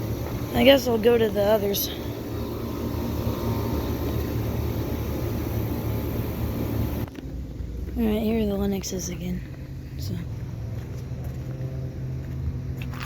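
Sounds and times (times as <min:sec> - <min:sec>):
air conditioner unit humming: 0:00.0 - 0:12.8.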